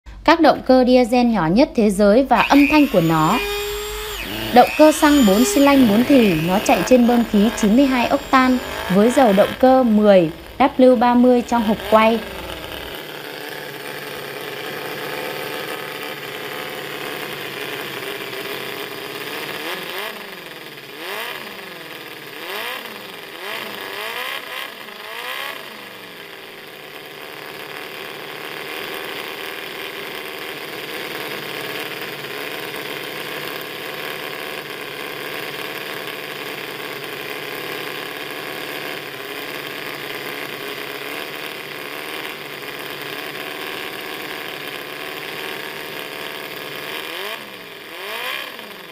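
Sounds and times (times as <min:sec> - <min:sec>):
small engine running and revving: 0:02.3 - 0:48.9.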